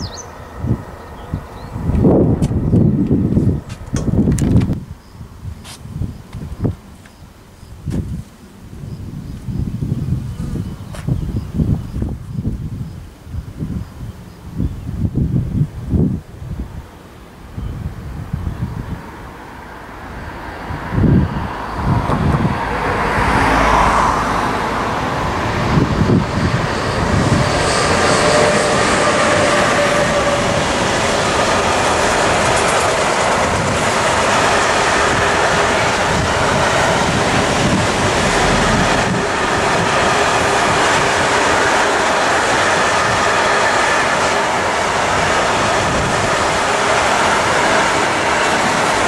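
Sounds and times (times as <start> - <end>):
train wheels rumbling on rail: 0.0 - 16.6, 17.8 - 49.0.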